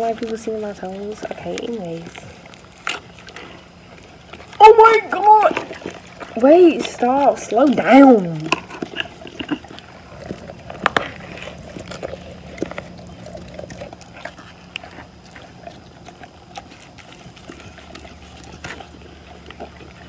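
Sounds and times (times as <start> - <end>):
dog licking and chewing: 0.0 - 20.0.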